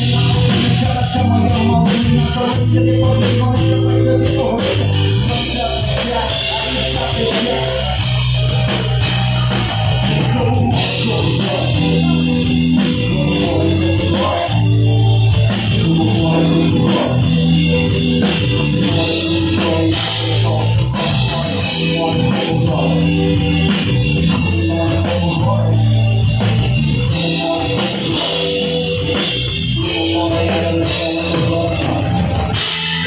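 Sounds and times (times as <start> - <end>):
drum kit: 0.0 - 33.0
electric guitar: 0.0 - 33.0
man singing lead vocal: 0.0 - 33.0.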